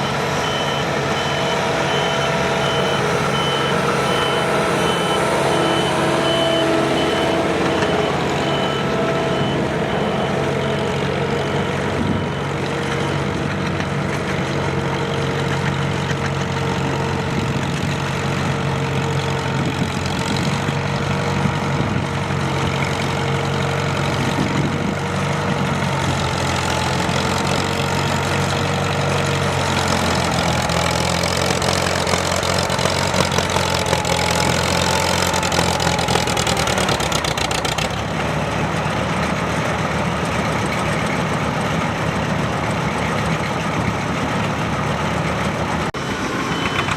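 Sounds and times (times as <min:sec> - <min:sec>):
heavy engine idling: 0:00.0 - 0:46.9.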